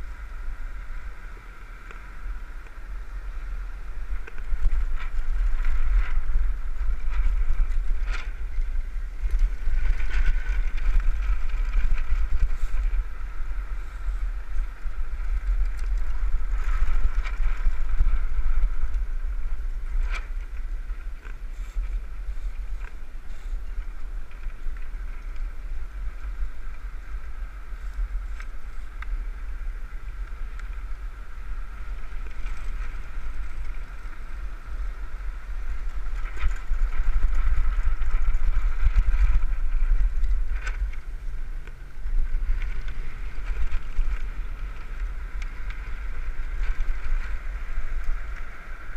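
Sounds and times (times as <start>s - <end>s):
cart rolling hum: 0.0s - 48.9s
wind rushing over microphone: 0.0s - 48.9s.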